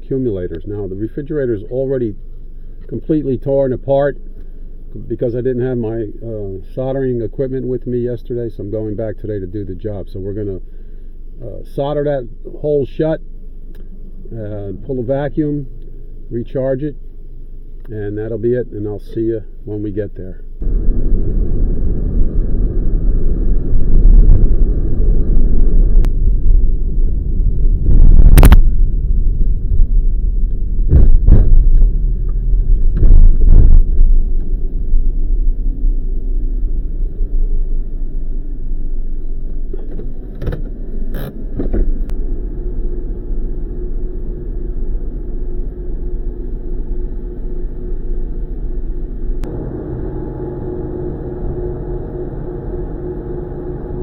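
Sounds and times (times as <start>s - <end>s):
vehicle rumble: 0.0s - 54.0s.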